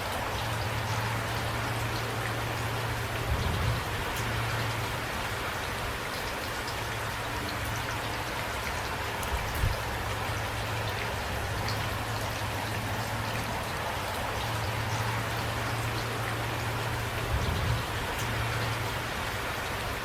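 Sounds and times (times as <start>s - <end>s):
raindrops ticking: 0.0s - 20.0s
steady rain hiss: 0.0s - 20.0s.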